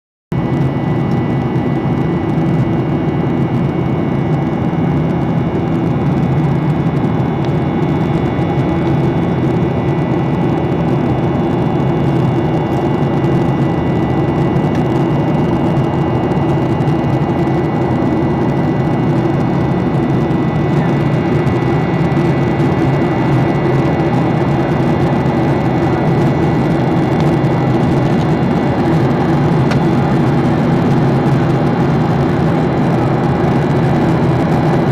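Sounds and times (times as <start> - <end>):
airplane cabin drone: 0.3 - 34.9.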